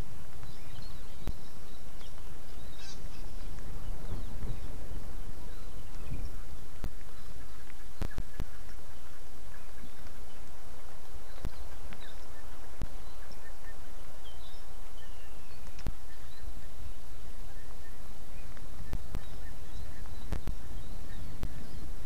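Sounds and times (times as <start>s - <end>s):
faint bird chirps: 0.0s - 22.0s
steady rain hiss: 0.0s - 22.0s.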